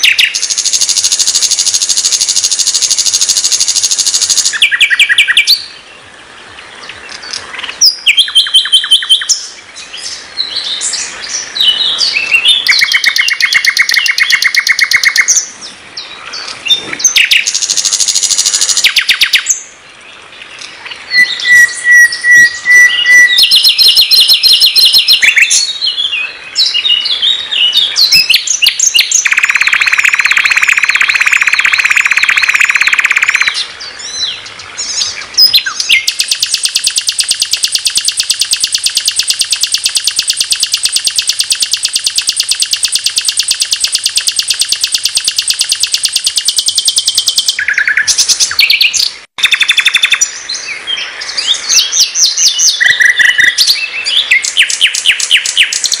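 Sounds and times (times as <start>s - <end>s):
bird singing trills and whistles: 0.0s - 5.8s, 6.8s - 19.8s, 20.5s - 56.0s.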